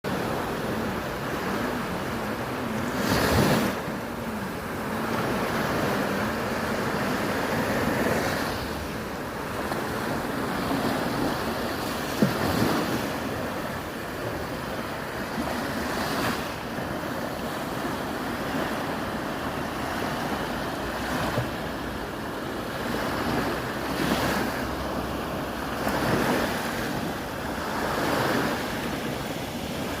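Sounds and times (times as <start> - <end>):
sea waves breaking on beach: 0.1 - 30.0.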